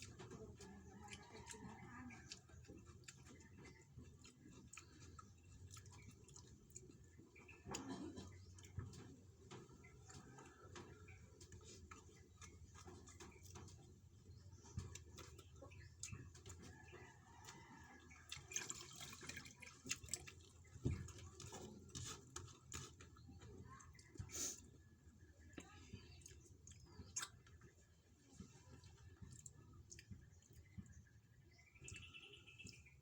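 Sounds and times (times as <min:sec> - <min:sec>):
wet chewing and mouth clicks: 0:00.0 - 0:33.0.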